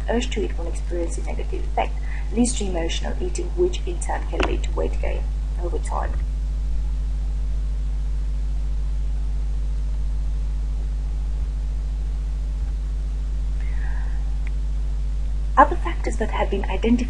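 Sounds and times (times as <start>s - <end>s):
low hum with faint hiss: 0.0s - 17.0s.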